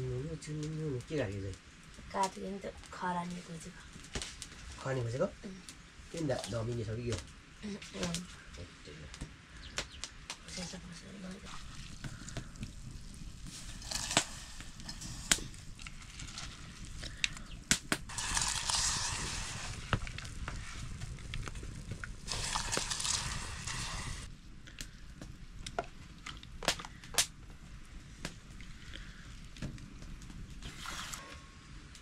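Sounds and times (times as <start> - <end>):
cooking hiss: 0.0 - 32.0.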